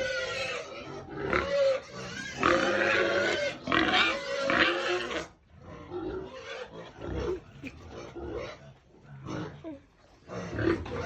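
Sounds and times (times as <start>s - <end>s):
pigs squealing: 0.0s - 9.6s, 10.2s - 11.0s.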